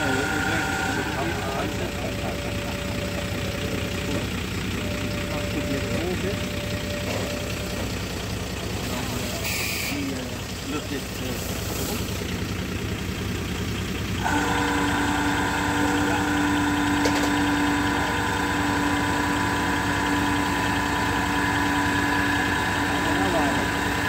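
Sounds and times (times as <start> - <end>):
multi-tone whine: 0.0 - 10.4, 14.2 - 24.0
engine running: 0.0 - 24.0.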